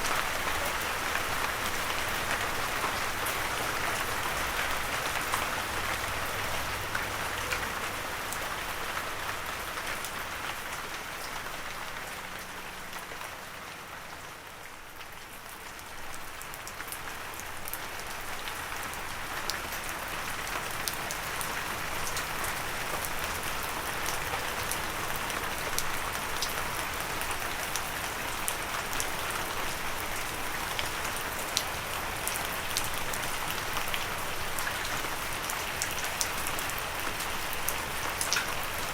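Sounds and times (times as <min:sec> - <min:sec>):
gentle rain falling: 0:00.0 - 0:38.9.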